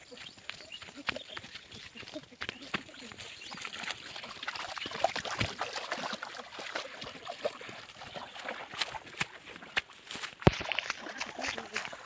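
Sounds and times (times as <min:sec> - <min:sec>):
small water splashes: 0:00.0 - 0:12.0
stream water trickling: 0:00.0 - 0:12.0.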